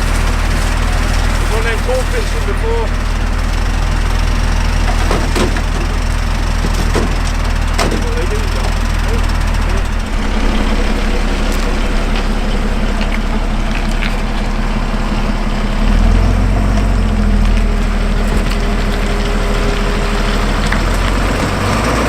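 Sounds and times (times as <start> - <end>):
burning wood crackling: 0.0 - 22.0
fire engine engine running: 0.0 - 22.0.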